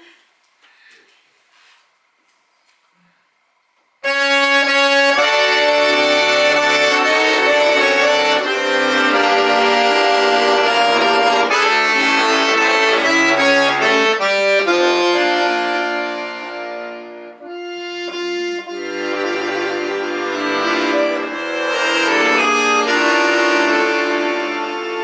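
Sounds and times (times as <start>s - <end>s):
accordion playing sustained chords: 4.0s - 25.0s.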